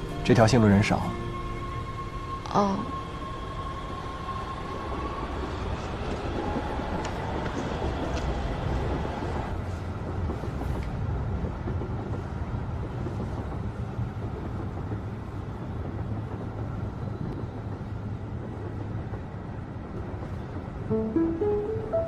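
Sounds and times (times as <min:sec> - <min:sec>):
subway train running: 0:00.0 - 0:22.0.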